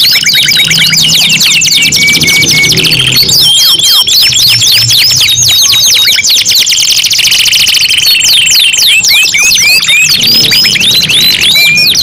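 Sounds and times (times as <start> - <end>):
canaries singing trills: 0.0 - 12.0.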